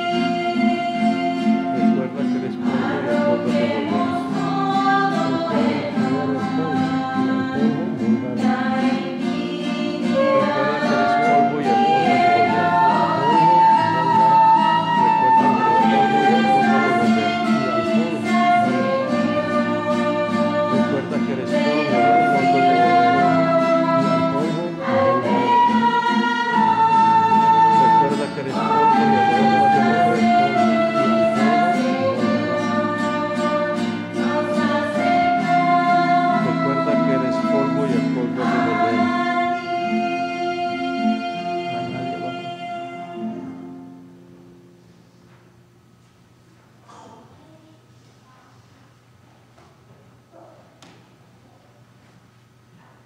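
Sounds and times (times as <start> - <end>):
church choir singing hymn: 0.0 - 43.8
instrumental accompaniment: 0.0 - 45.4.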